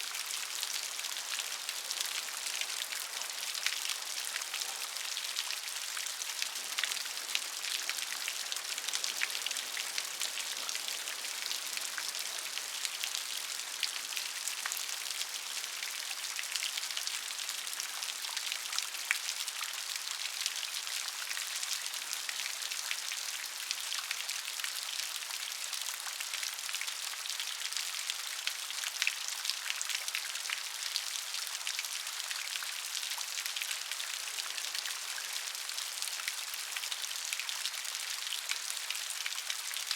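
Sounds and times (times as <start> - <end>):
rain drops ticking on surface: 0.0 - 39.9.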